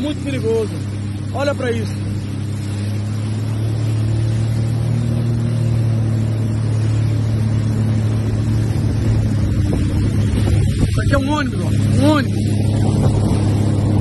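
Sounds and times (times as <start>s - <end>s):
jet ski engine drone: 0.0s - 14.0s
water rushing under hull: 0.0s - 14.0s.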